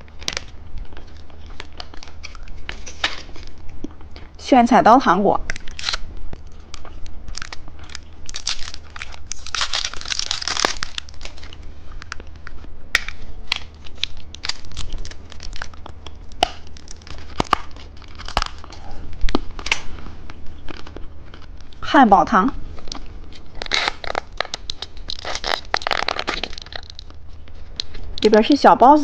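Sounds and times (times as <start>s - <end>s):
candy wrapper crinkling: 0.0s - 4.0s, 5.4s - 21.8s, 22.8s - 28.6s.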